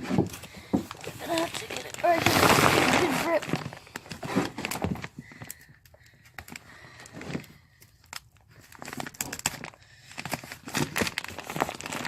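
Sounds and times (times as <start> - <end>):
feed bag rustling and crinkling: 0.0 - 5.7, 6.5 - 12.0.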